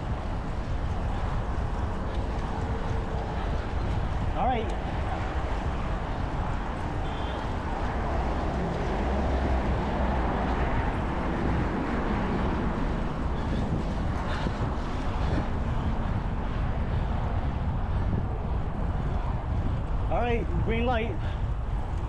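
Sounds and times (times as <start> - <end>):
passing traffic: 0.0 - 22.0
wind on microphone: 0.0 - 22.0.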